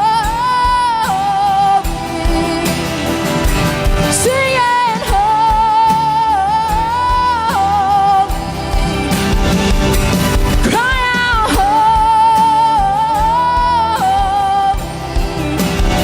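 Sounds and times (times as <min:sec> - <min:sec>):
band playing worship music: 0:00.0 - 0:16.0.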